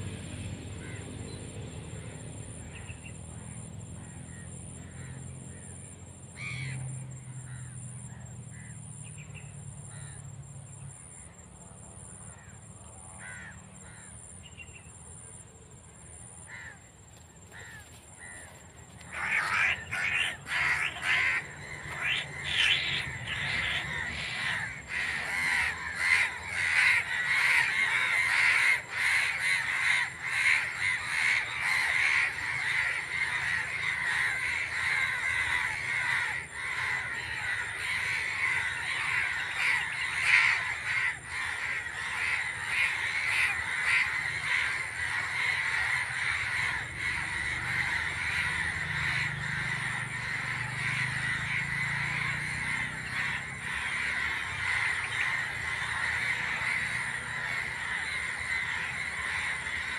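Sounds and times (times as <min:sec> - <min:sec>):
faint bird calls: 0:00.0 - 0:11.4, 0:12.1 - 0:15.4, 0:16.0 - 0:59.9
crows cawing loudly: 0:00.8 - 0:01.2, 0:03.4 - 0:05.8, 0:06.4 - 0:07.8, 0:08.5 - 0:08.8, 0:09.9 - 0:10.2, 0:13.2 - 0:14.2, 0:16.5 - 0:16.8, 0:17.5 - 0:59.9.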